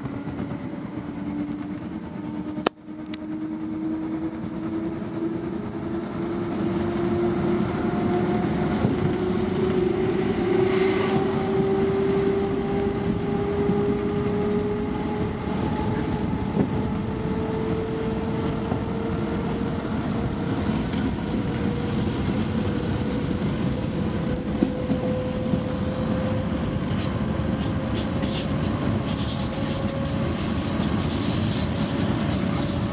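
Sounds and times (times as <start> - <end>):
train running gear rumble: 0.0 - 32.9
train traction drive whine: 0.0 - 32.9.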